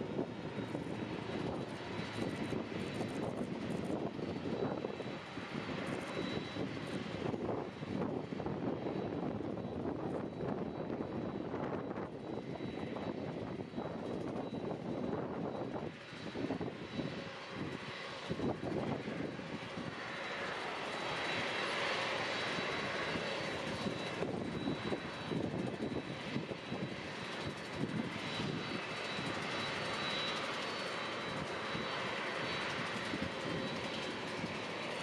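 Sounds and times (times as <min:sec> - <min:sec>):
airliner engines running: 0:00.0 - 0:35.0.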